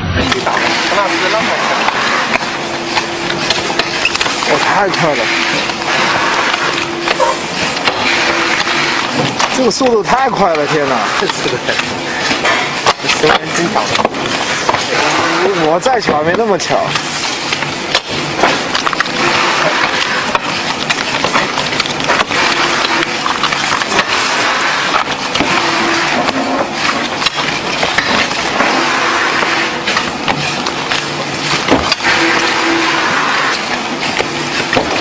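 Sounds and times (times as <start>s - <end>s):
card boxes rustling and clicking: 0.3s - 35.0s.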